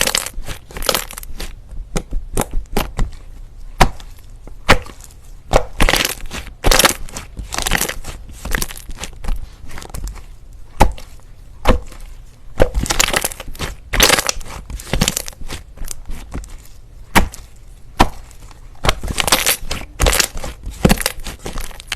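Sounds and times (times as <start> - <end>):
slime popping and crackling: 0.0 - 3.1, 3.8 - 10.2, 12.6 - 21.9.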